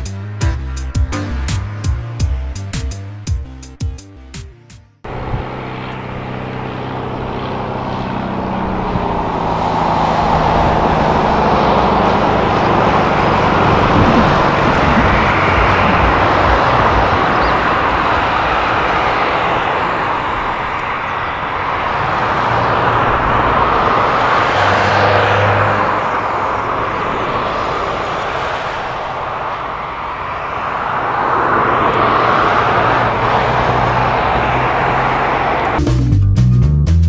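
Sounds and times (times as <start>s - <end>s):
propeller aircraft engine drone: 0.0s - 35.8s.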